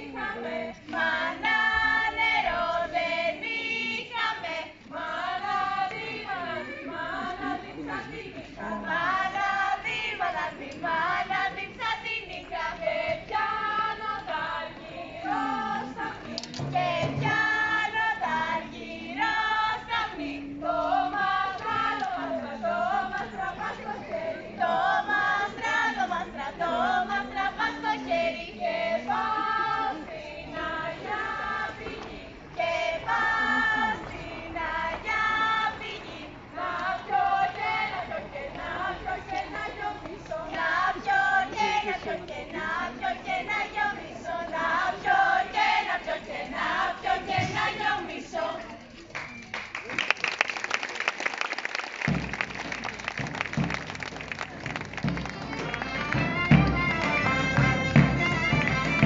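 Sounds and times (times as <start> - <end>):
group singing folk song: 0.0 - 48.9, 55.0 - 59.0.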